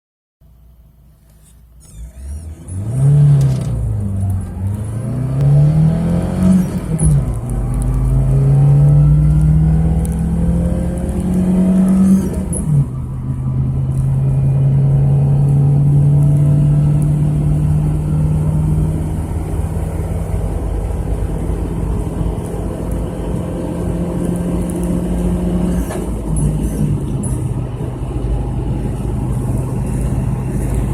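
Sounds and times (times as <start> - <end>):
car engine accelerating hard: 1.8 - 30.9.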